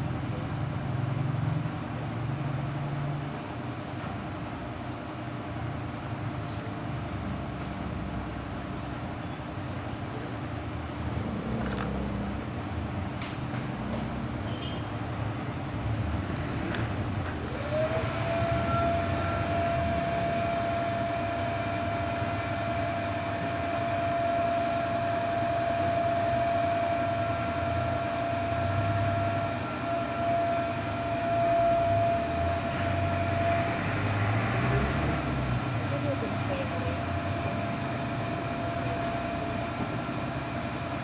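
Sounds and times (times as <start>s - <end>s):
machine drone with low rumble: 0.0s - 41.0s
machine whine: 5.1s - 41.0s.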